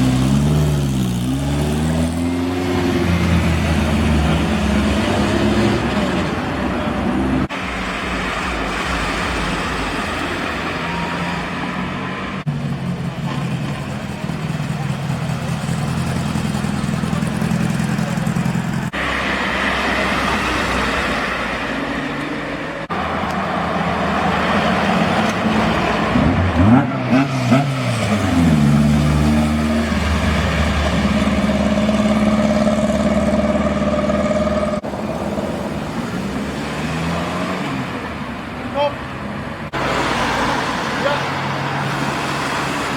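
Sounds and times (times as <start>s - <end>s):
car engine revving: 0.0s - 38.6s
cars driving past: 0.0s - 42.9s.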